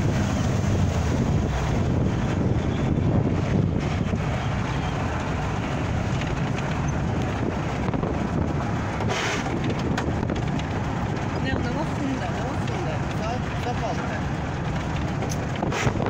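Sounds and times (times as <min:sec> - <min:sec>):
dune buggy engine running: 0:00.0 - 0:16.0
wind buffeting microphone: 0:00.0 - 0:16.0.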